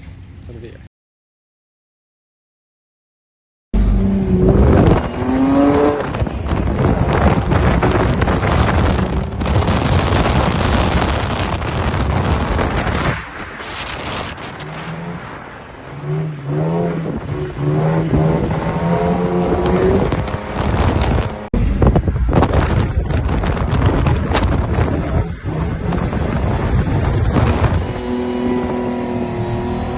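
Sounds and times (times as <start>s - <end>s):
car engine revving: 3.8s - 29.9s
loud rushing noise: 3.8s - 29.9s.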